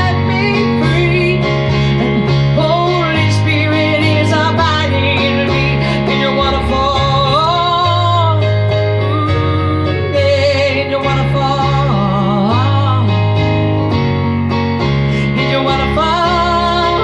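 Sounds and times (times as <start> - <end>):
person singing: 0.0 - 14.0, 15.1 - 17.0
bass notes: 0.0 - 17.0
guitar: 0.0 - 17.0.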